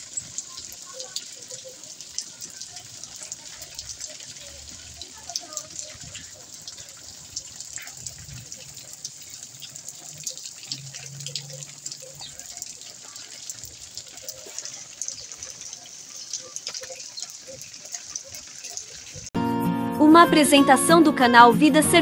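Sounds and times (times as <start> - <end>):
heavy rain on pavement: 0.0 - 19.3.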